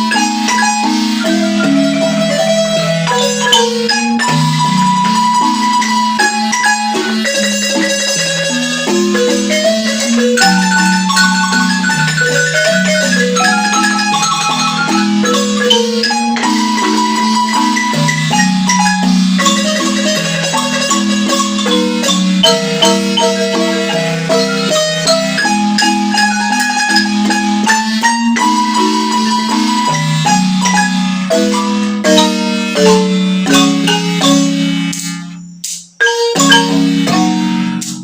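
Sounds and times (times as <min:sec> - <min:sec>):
marimba melody: 0:00.0 - 0:38.0.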